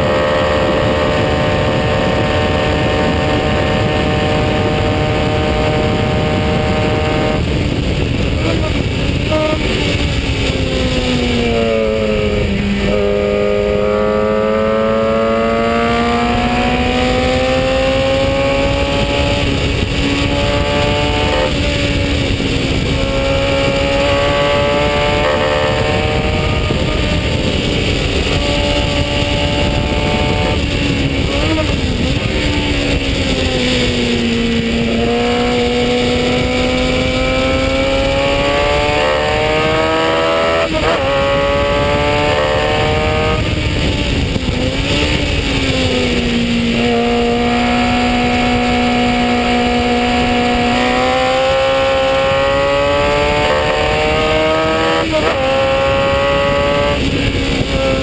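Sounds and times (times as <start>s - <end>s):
racing car engine: 0.0s - 58.0s
rush of wind: 0.0s - 58.0s.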